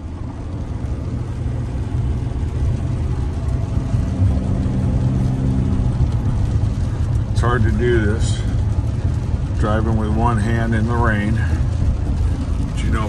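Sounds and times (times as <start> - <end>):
low engine hum: 0.0 - 13.0
road noise rumble in car: 0.0 - 13.0.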